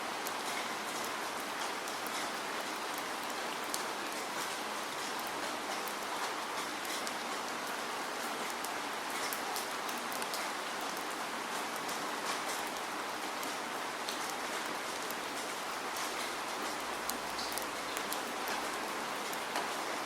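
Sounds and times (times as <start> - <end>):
steady rain falling: 0.0 - 20.0
raindrops pattering on a surface: 0.1 - 20.0.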